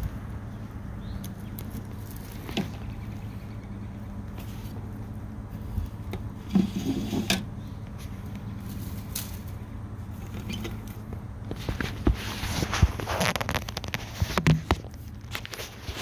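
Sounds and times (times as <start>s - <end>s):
steady low hum: 0.0s - 16.0s
handling knocks and scrapes: 1.5s - 3.0s, 4.3s - 16.0s.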